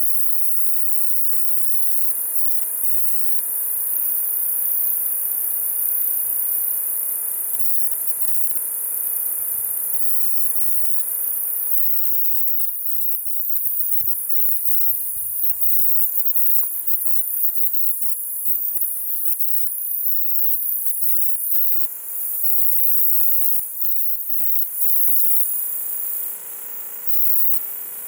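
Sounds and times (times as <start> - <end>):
insect high-pitched trill: 0.0 - 28.0.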